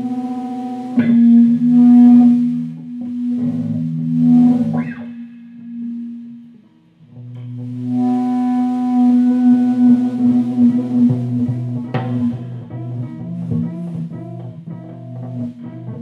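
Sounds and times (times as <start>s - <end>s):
electric guitar droning note: 0.0s - 16.0s.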